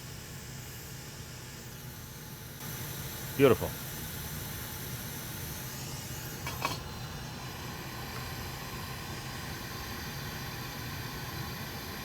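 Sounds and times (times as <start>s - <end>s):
fan hiss with low hum: 0.0s - 12.0s.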